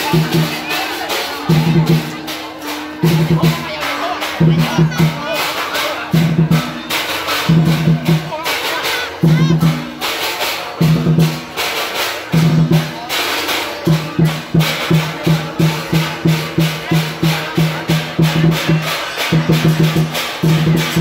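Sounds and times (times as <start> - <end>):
bright rattling percussion: 0.0 - 21.0
low drum beat: 0.0 - 21.0.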